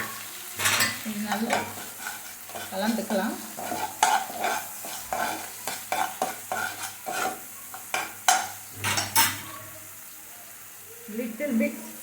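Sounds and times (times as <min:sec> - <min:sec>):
spoon scraping a pan: 0:00.0 - 0:09.7.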